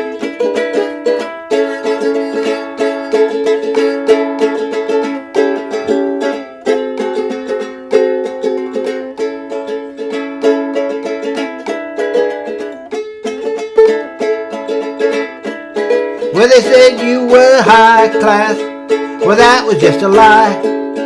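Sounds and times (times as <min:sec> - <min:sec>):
strummed acoustic string instrument: 0:00.0 - 0:21.0.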